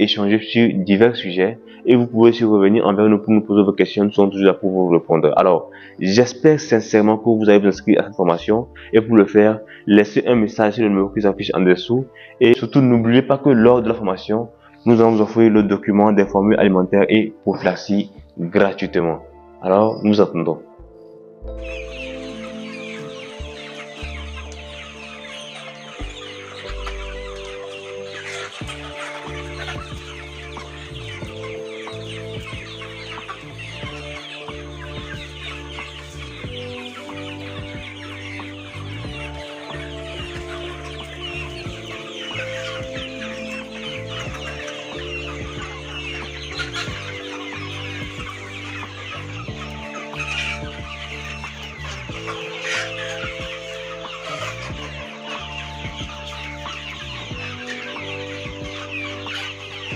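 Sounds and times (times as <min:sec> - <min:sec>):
background music: 0:00.0 - 0:59.9
hens clucking: 0:00.0 - 0:59.9.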